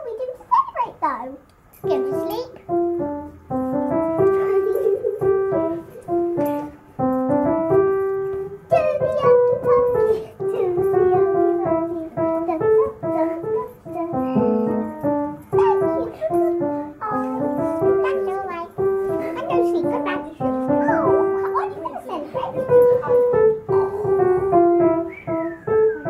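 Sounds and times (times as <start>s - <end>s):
piano melody: 1.8s - 26.0s.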